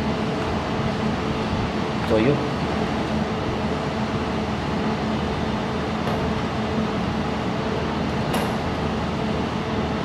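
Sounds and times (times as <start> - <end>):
welding machine hum and fan: 0.0 - 10.0.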